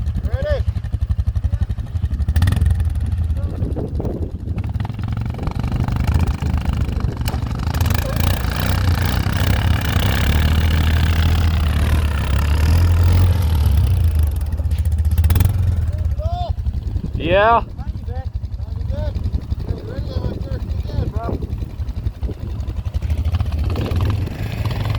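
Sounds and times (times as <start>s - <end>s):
quad bike engine running: 0.0s - 24.9s.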